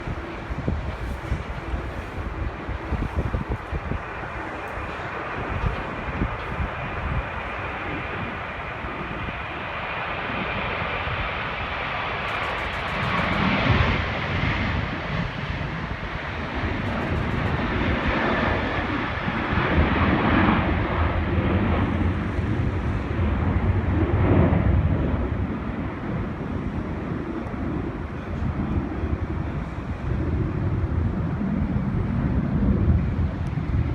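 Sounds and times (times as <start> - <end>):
jet engines at takeoff: 0.0 - 33.9.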